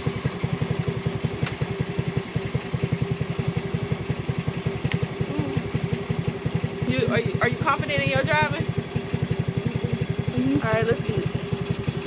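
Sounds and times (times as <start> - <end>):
dune buggy engine idling: 0.0 - 12.0.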